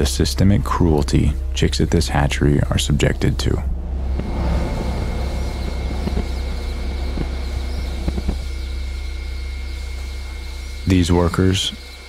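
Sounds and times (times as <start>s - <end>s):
constant high whine: 0.0s - 12.0s
machinery humming: 0.0s - 12.0s.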